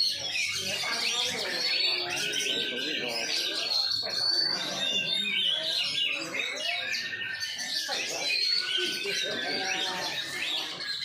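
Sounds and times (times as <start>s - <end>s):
songbird chirping and singing: 0.0s - 11.0s.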